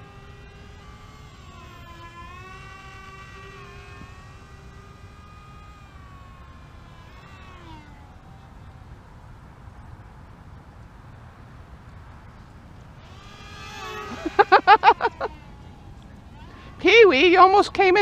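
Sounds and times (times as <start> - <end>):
model plane motors whining: 0.0 - 18.0.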